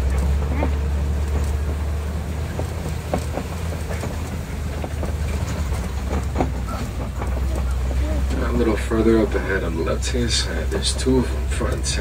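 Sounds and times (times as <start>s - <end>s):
rattles and knocks: 0.0s - 12.0s
truck rumbling: 0.0s - 12.0s.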